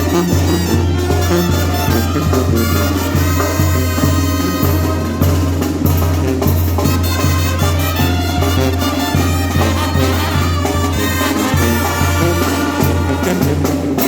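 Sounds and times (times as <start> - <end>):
brass horns: 0.0 - 14.0
drum beat: 0.0 - 14.0.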